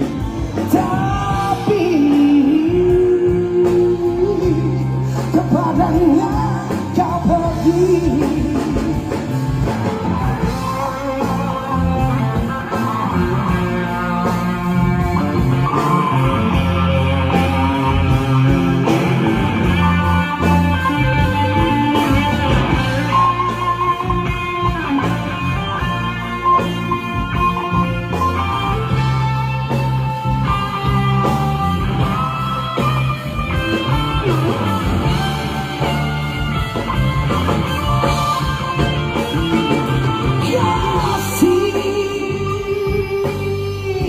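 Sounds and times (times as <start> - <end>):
instrumental pop music with guitar: 0.0 - 44.0.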